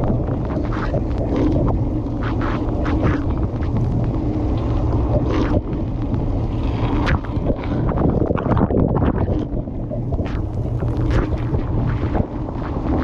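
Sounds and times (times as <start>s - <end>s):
dishwasher low rumble: 0.0s - 13.0s.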